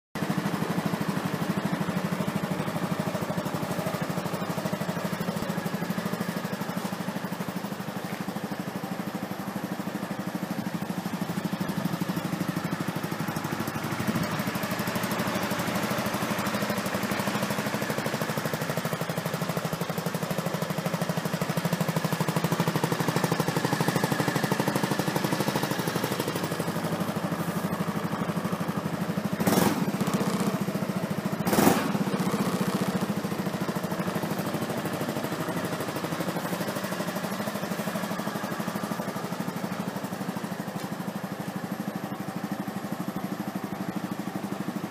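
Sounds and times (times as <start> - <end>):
scooter engine idling: 0.2 - 44.9.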